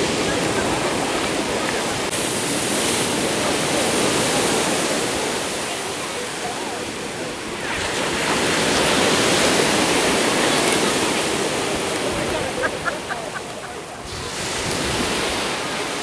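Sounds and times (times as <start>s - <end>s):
wave breaking and washing in: 0.0s - 16.0s.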